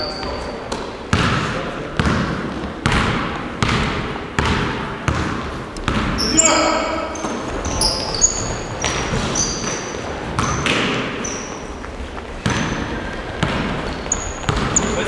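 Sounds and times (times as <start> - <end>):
sneakers squeaking on court: 0.0 - 15.0
basketball bouncing: 0.2 - 11.5, 12.3 - 15.0.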